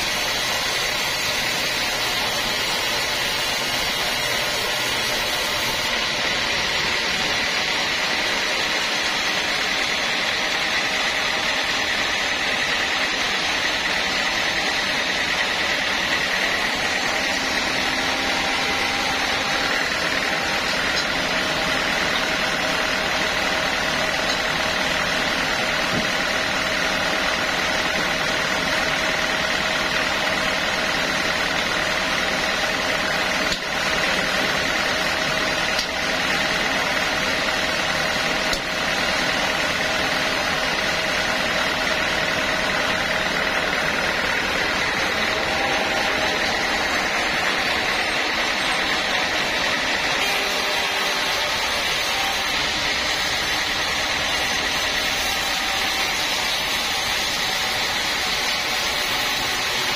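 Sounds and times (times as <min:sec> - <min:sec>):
band saw whining: 0:00.0 - 0:59.9.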